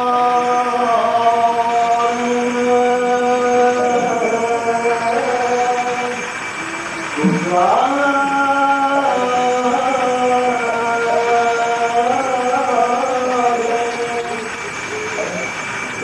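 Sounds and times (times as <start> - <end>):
man chanting liturgy: 0.0 - 16.0.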